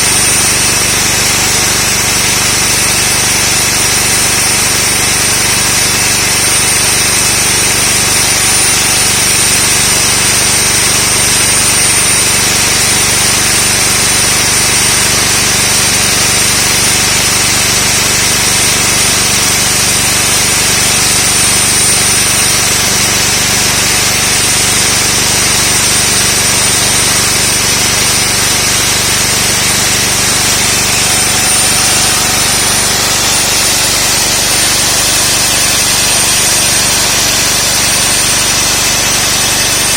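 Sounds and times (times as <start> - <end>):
core drill grinding concrete: 0.0 - 39.9.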